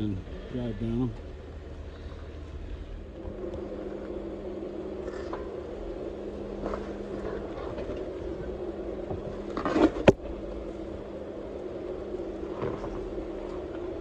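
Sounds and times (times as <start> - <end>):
engine running slowly: 0.0 - 14.0
rising scrape: 1.9 - 14.0.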